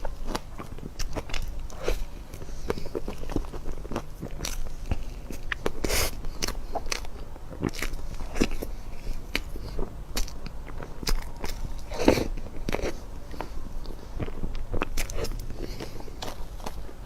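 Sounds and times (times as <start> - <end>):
person chewing dessert: 0.0 - 17.0.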